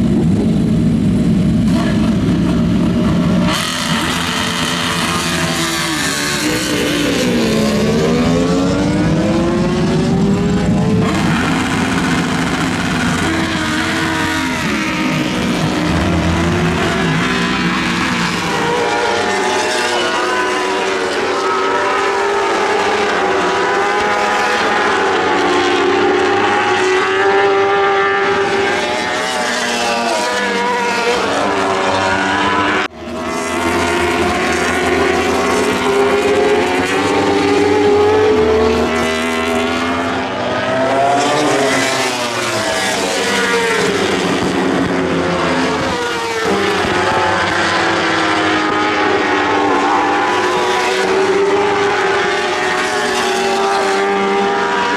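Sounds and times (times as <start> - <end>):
racing motorcycle engines at high revs: 0.0 - 54.9.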